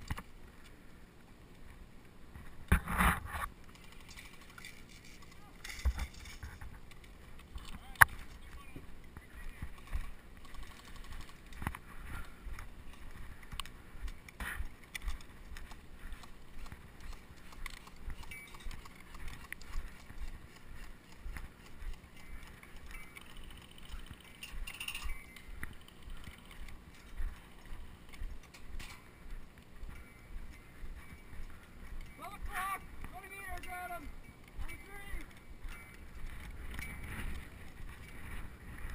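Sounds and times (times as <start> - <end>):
gear clicking and rattling: 2.8 - 38.9
footsteps on dry grass: 4.3 - 38.9.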